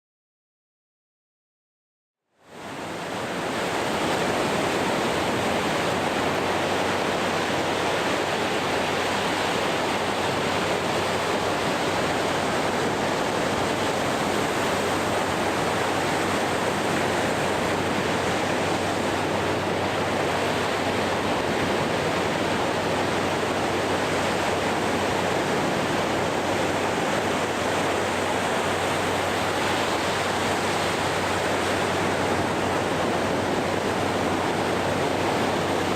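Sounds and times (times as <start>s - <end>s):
ocean waves breaking: 2.4s - 35.9s.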